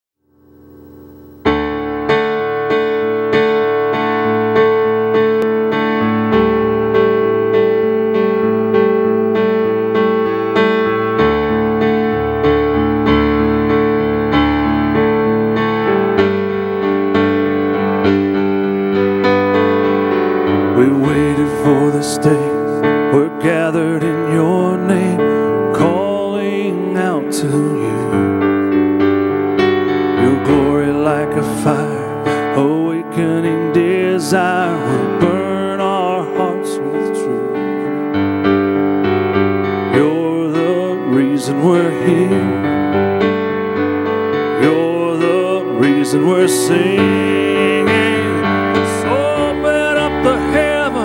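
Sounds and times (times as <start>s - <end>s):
keyboard piano chords: 0.2s - 51.0s.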